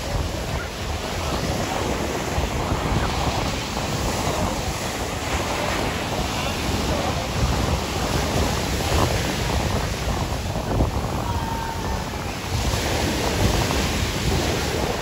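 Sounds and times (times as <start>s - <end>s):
ocean surf washing on beach: 0.0s - 15.0s
wind buffeting microphone: 0.0s - 15.0s.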